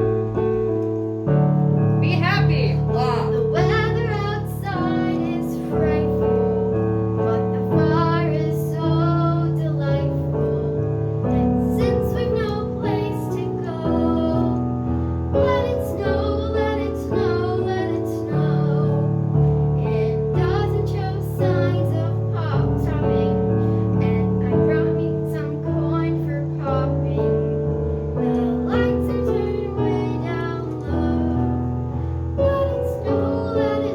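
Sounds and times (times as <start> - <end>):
piano chords: 0.0 - 33.9
child singing: 2.9 - 27.6, 28.2 - 31.7, 32.4 - 33.9.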